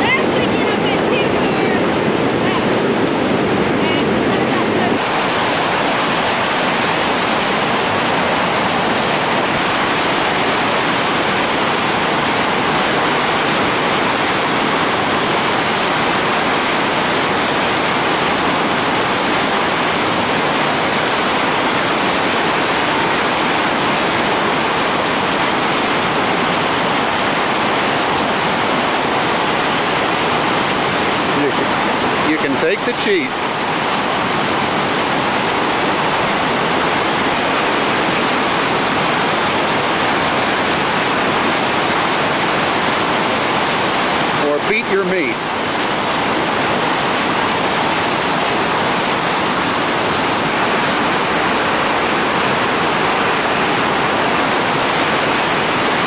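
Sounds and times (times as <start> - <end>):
whitewater rapids rushing: 0.0 - 56.0.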